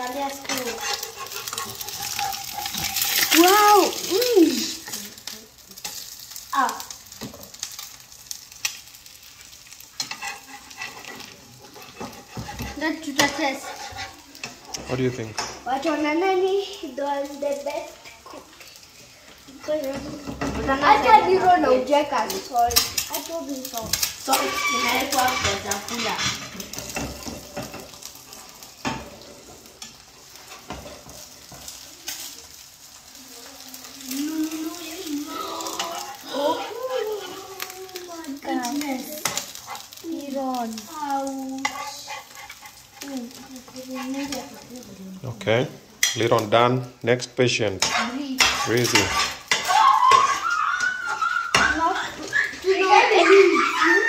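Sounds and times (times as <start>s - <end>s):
metal spatula scraping a pan: 0.0s - 5.2s, 9.4s - 16.1s, 17.6s - 32.4s, 33.5s - 44.9s, 47.6s - 54.0s
egg sizzling in a pan: 0.0s - 54.0s.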